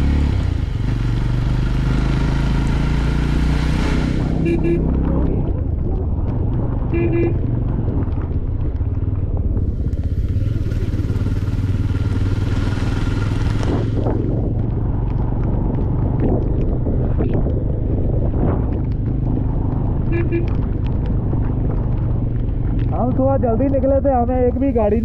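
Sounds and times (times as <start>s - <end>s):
motorcycle engine drone: 0.0s - 25.0s.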